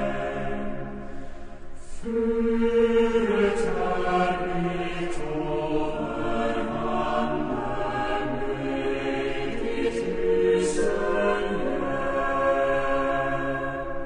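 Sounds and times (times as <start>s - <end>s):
slow chant-like music: 0.0s - 14.0s.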